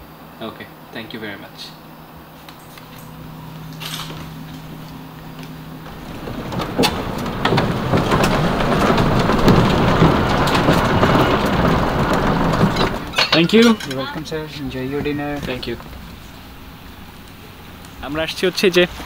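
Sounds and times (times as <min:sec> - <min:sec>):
tyres clattering over wooden planks: 0:03.1 - 0:19.0.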